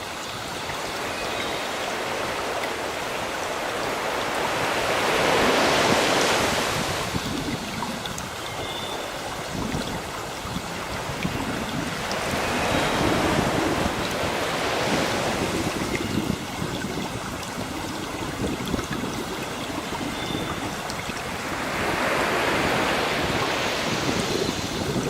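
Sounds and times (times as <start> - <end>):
waves breaking on shore: 0.0 - 25.0.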